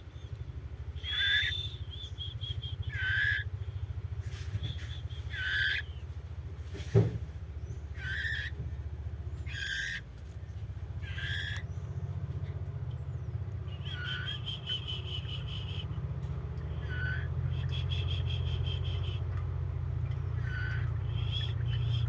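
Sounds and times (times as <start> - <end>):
bird trills: 0.0 - 6.3, 7.5 - 22.0
songbirds calling: 0.0 - 22.0
steady low hum: 0.0 - 22.0.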